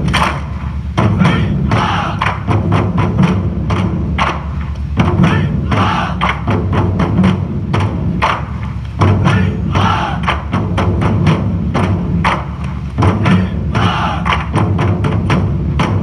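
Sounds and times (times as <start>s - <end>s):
music with heavy drum beat: 0.0s - 16.0s.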